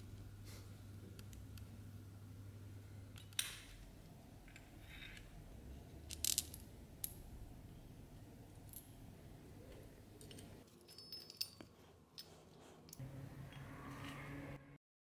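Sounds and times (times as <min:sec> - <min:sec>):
faint low hum: 0:00.0 - 0:14.8.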